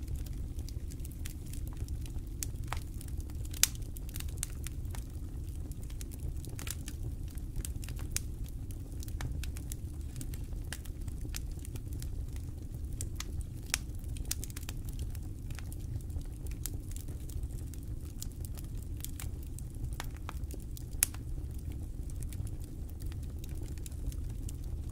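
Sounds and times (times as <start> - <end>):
campfire crackling: 0.0 - 24.9.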